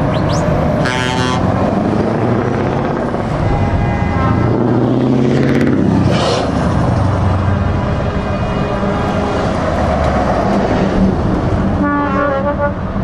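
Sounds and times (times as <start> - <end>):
trucks driving past: 0.0 - 13.0.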